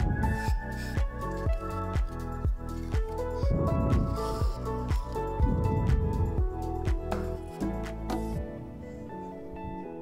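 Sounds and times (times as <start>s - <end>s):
background music with steady beat: 0.0s - 9.2s.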